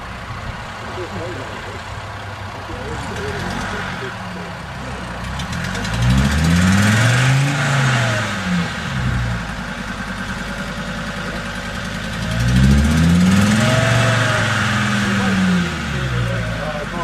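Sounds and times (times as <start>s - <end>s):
truck churning through mud: 0.0s - 17.0s
truck engine revving: 0.0s - 17.0s.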